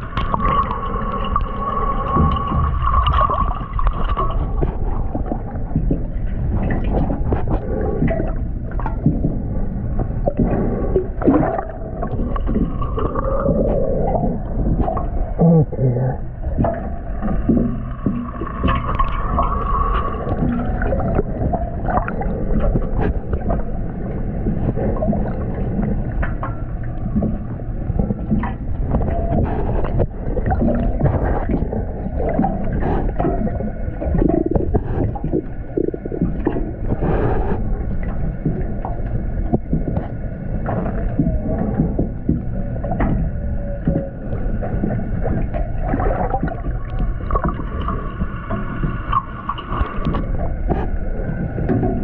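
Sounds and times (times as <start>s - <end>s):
underwater gurgling: 0.0s - 52.0s.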